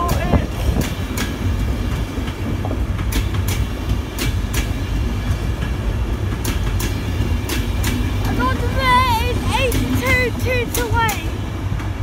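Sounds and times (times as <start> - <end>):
train rumbling past: 0.0 - 12.0
wheels clicking over rail joints: 0.0 - 12.0.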